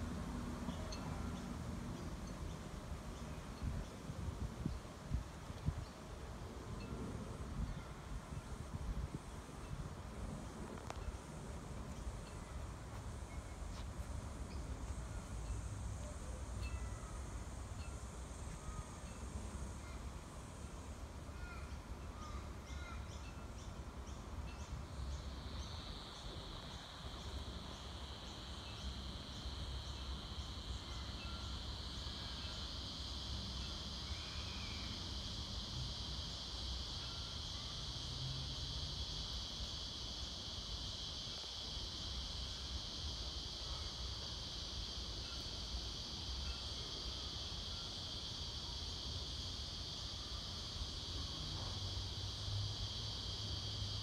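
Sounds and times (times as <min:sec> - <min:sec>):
insect high-pitched drone: 0:00.0 - 0:54.0.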